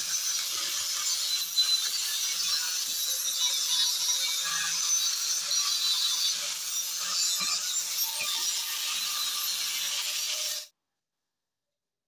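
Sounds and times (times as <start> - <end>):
angle grinder grinding metal: 0.0 - 10.7.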